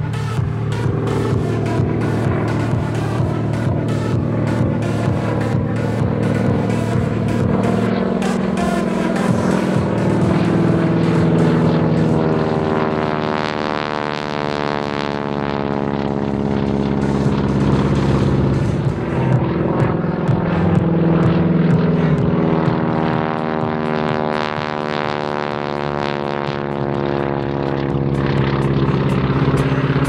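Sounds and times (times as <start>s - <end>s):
propeller plane engine overhead: 0.0s - 30.0s.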